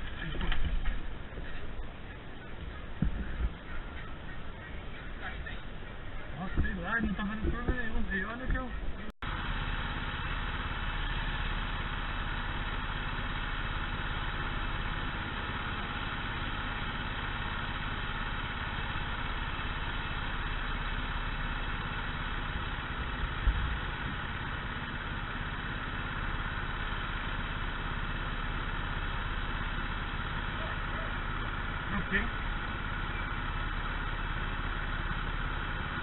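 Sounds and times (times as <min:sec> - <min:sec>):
go-kart engines idling: 0:00.0 - 0:36.0.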